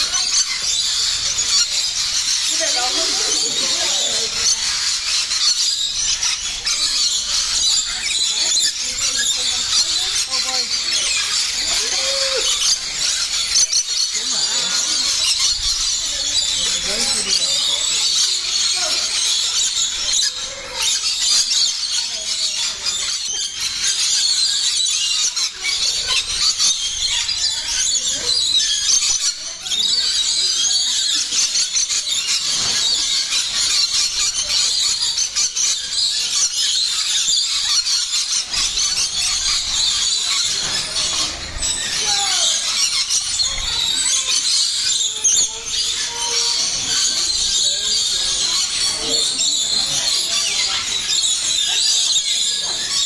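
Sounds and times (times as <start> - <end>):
parrots screeching and chattering: 0.0 - 53.0.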